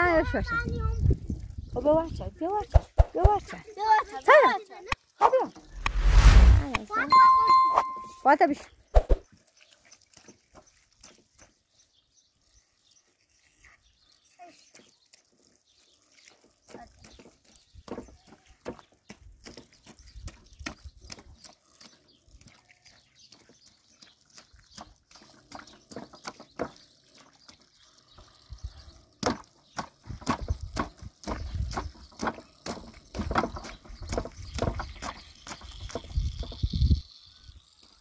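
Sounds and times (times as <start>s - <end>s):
water splashing from hose: 0.0s - 38.0s.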